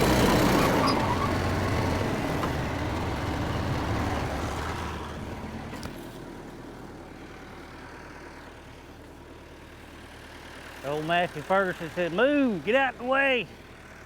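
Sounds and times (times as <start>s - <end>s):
dozer engine running: 0.0s - 14.0s.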